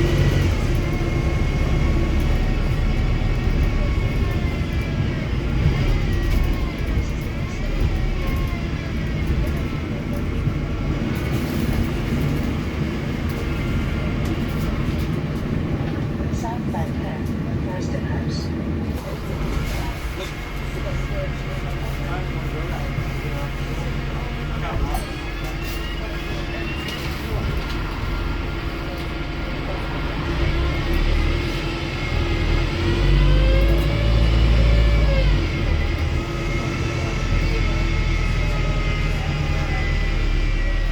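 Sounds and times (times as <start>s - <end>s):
bus diesel engine rumble: 0.0s - 40.9s
road noise: 0.0s - 40.9s.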